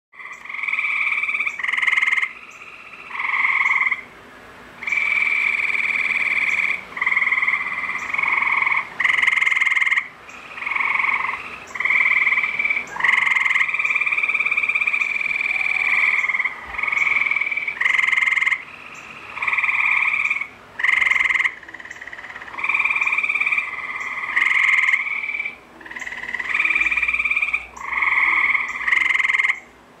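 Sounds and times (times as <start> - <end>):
tree frogs calling: 0.2 - 29.8.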